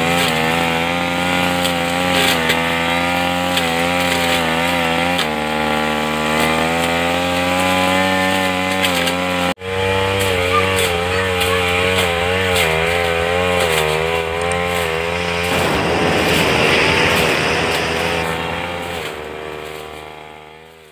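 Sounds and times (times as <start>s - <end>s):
grass cutter engine running: 0.0s - 20.9s.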